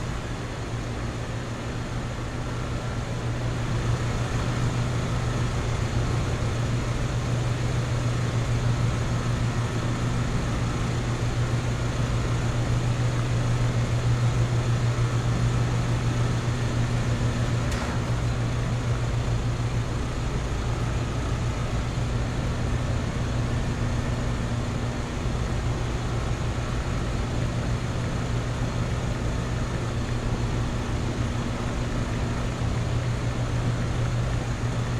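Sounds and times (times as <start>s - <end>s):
air conditioner units humming: 0.0s - 34.9s
condenser fans rushing: 0.0s - 34.9s.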